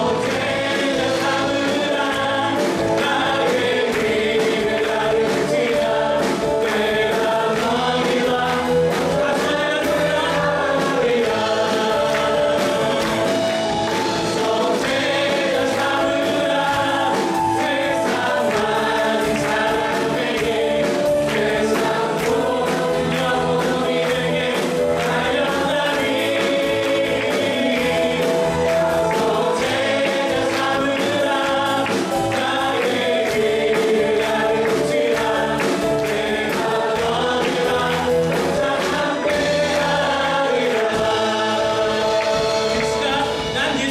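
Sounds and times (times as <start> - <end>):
congregation singing in chorus: 0.0 - 43.9
instrumental accompaniment: 0.0 - 43.9.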